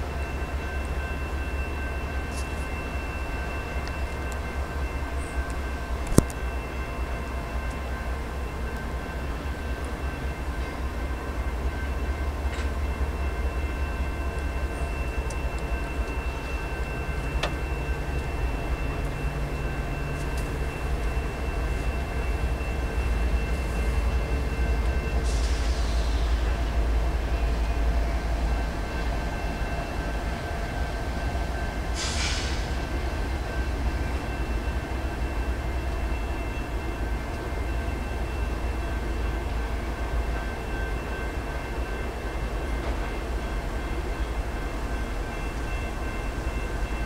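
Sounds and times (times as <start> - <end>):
distant train rumbling on bridge: 0.0 - 47.0.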